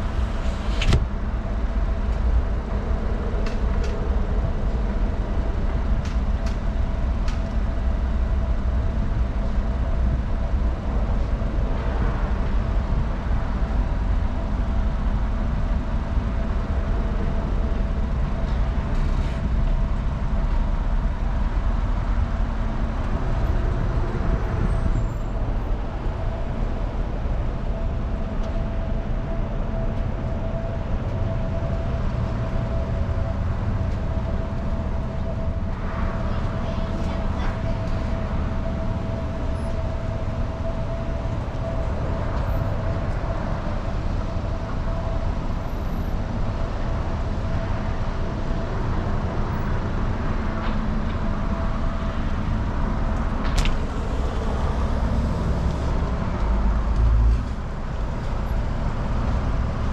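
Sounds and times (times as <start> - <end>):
faint constant hum: 0.0 - 59.9.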